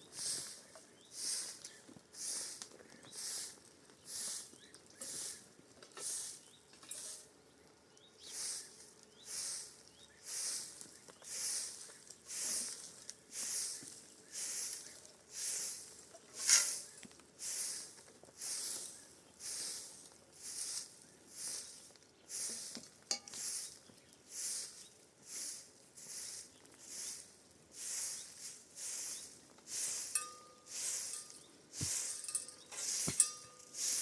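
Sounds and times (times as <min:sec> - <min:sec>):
rasping hissing strokes: 0:00.1 - 0:06.4, 0:08.3 - 0:34.0.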